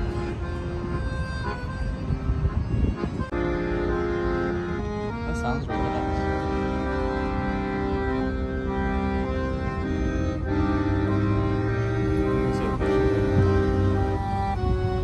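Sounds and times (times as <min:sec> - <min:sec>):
accordion playing slow tune: 0:00.0 - 0:15.0.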